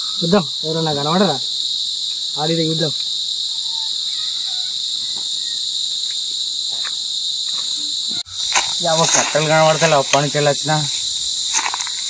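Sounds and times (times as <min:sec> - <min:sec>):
shrill insect chorus: 0:00.0 - 0:12.0.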